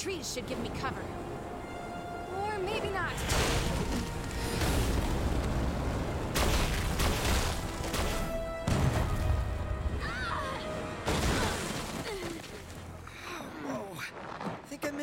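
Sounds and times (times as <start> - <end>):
dramatic background music: 0.0 - 13.2.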